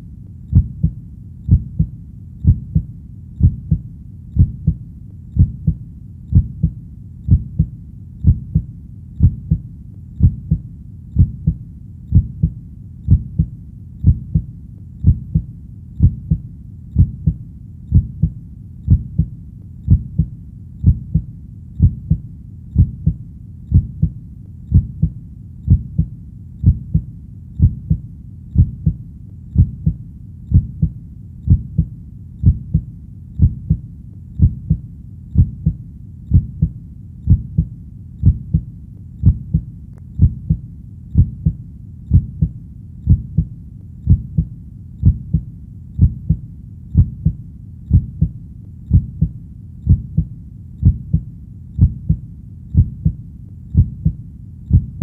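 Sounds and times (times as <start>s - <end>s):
low steady hum: 0.0s - 55.0s
heartbeat double thump: 0.5s - 3.8s, 4.4s - 4.8s, 5.4s - 9.6s, 10.2s - 10.6s, 11.2s - 16.4s, 17.0s - 19.3s, 19.9s - 22.2s, 22.8s - 28.0s, 29.6s - 33.8s, 34.4s - 34.8s, 35.4s - 40.6s, 41.2s - 43.5s, 44.1s - 46.4s, 47.0s - 51.2s, 51.8s - 52.2s, 52.8s - 53.2s, 53.8s - 55.0s.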